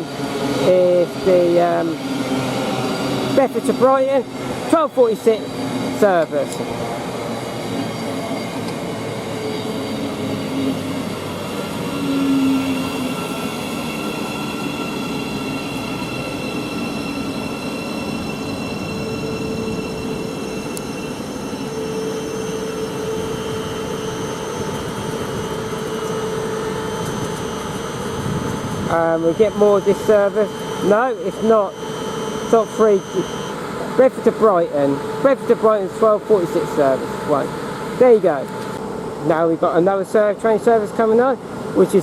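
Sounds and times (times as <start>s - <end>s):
electric whine of traction gear: 0.0s - 39.6s
train rail running noise: 0.0s - 42.0s.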